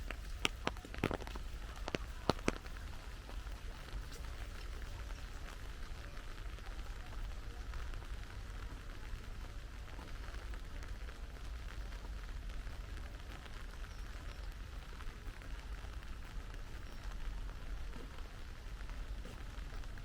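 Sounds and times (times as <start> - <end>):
rain drops pattering: 0.0 - 20.0
steady low rumble: 0.0 - 20.0.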